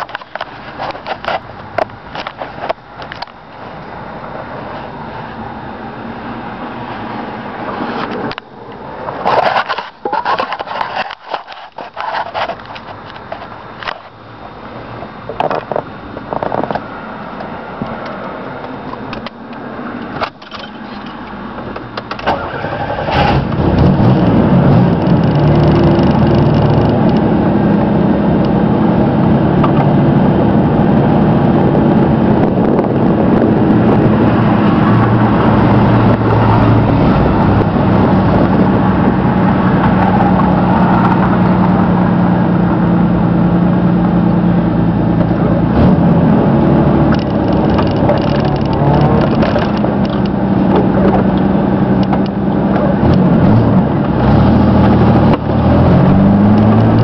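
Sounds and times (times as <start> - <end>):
truck engine humming: 0.0 - 57.0.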